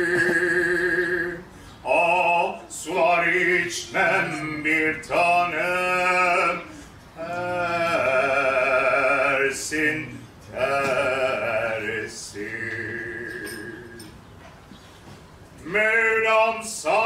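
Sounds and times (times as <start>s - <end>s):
man singing unaccompanied: 0.0s - 14.2s, 15.6s - 17.0s.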